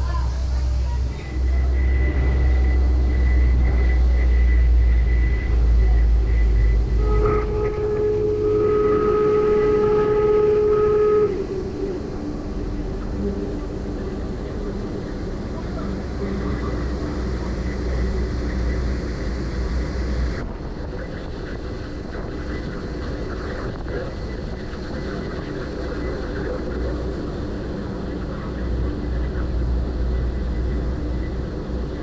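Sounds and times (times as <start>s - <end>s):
ferry diesel engines droning: 0.0s - 32.0s.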